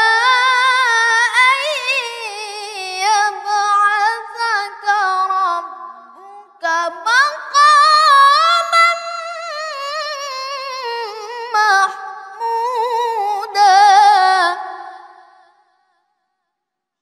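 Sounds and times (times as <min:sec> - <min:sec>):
boy reciting in melodic chant: 0:00.0 - 0:15.7.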